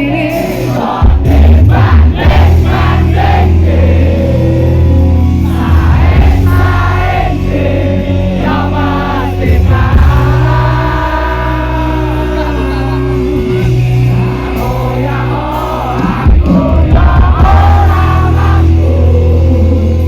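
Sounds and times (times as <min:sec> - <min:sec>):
heavy bass line: 0:00.0 - 0:20.0
lead vocal singing: 0:00.0 - 0:20.0
live band playing: 0:00.0 - 0:20.0
voices singing along: 0:00.0 - 0:20.0.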